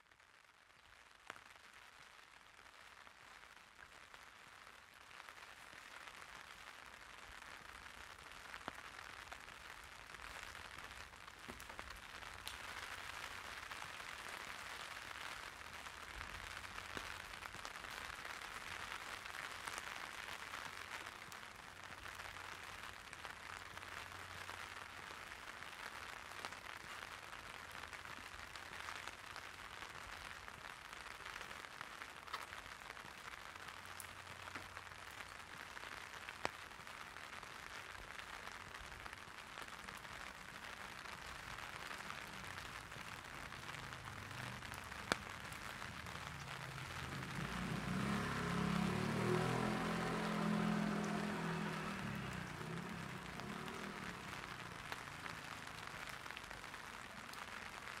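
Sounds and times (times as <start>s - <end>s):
rain pattering on an umbrella: 0.0s - 58.0s.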